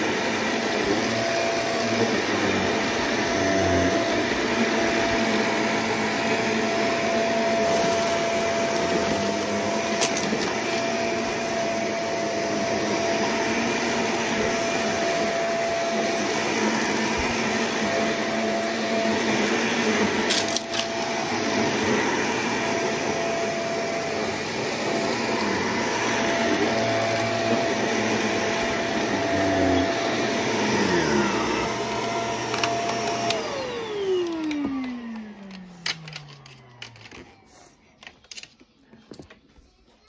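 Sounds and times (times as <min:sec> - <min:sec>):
vacuum cleaner running on carpet: 0:00.0 - 0:37.7.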